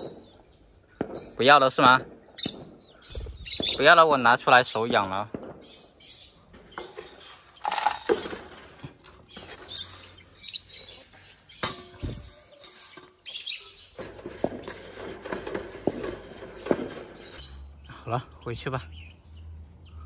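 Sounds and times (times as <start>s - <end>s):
bird chirps: 0.0s - 15.1s, 16.3s - 20.0s.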